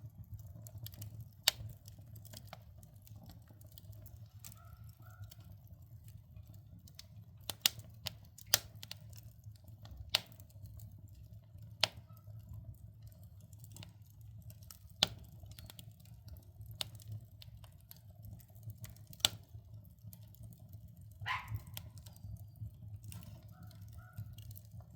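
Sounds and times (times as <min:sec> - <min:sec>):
logs crackling in a wood stove: 0:00.0 - 0:24.9
low rumble of stove: 0:00.0 - 0:24.9.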